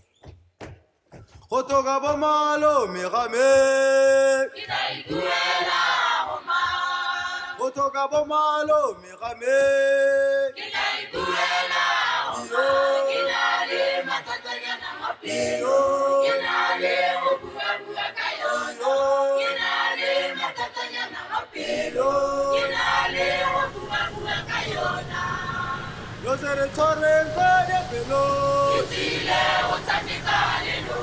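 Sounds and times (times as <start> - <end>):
choir singing held notes: 3.3 - 7.8, 9.3 - 31.0.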